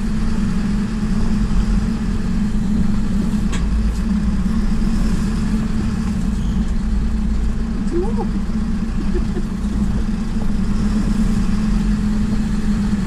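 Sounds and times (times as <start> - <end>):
road rumble: 0.0 - 13.0
vehicle engine running: 0.0 - 13.0.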